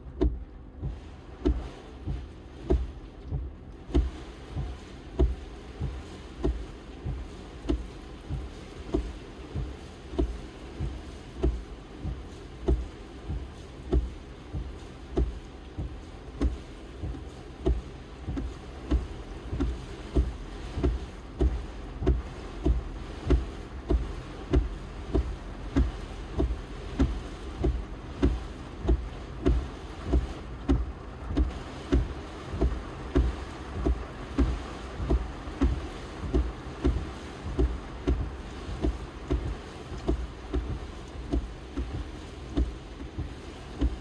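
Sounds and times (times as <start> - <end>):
rain on a car: 0.0 - 44.0
windshield wipers sweeping: 0.0 - 44.0
wiper thumps: 0.0 - 44.0.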